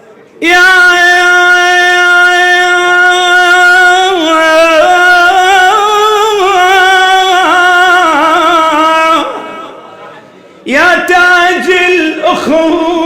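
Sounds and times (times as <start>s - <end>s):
man singing wordless lament: 0.4s - 9.8s, 10.6s - 13.0s.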